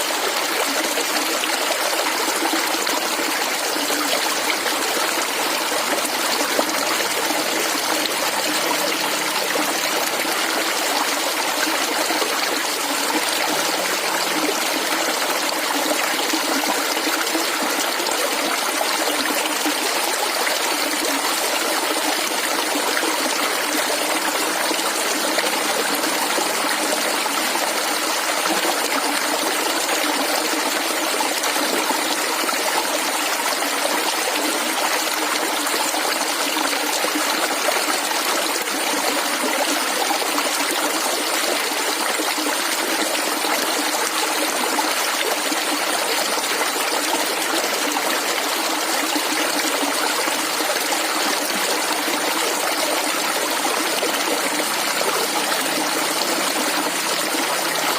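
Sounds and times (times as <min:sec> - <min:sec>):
stream flowing and gurgling: 0:00.0 - 0:57.9.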